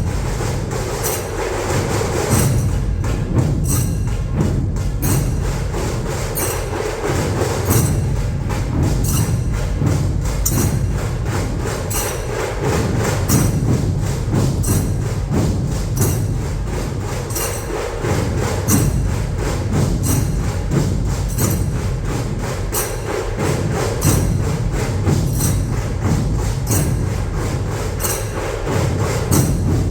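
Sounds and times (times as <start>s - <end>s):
barrel drums pounding: 0.0s - 29.9s
snare drums rattling: 0.0s - 29.9s.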